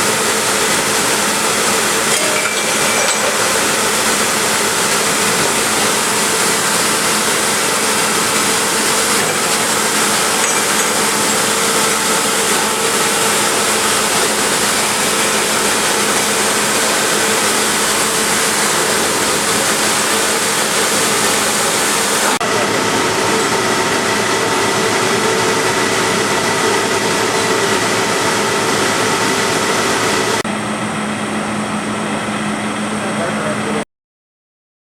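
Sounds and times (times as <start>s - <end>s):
grinder running: 0.0s - 30.4s.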